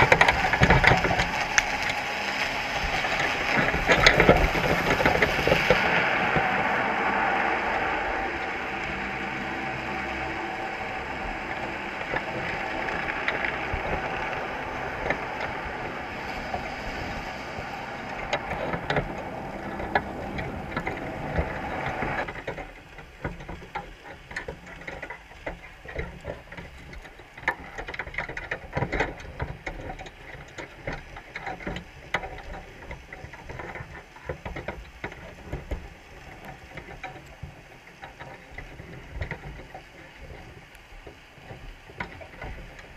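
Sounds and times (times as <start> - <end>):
crabs clicking and scraping underwater: 0.0 - 42.9
steady underwater drone: 0.0 - 42.9.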